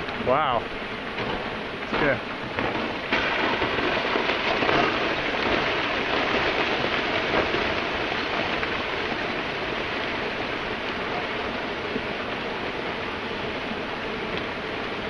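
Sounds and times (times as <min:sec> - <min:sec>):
rockfall rushing clatter: 0:00.0 - 0:15.0.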